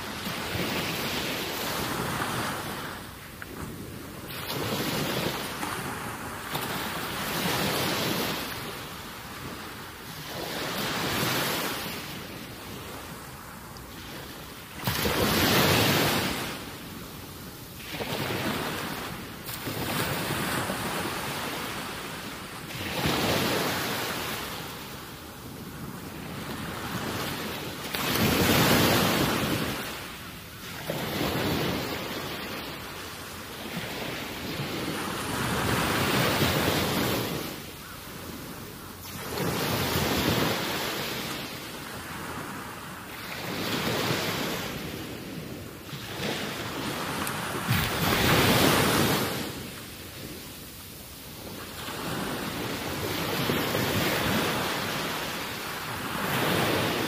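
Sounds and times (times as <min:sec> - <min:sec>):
gusting wind on microphone: 0:00.0 - 0:57.0.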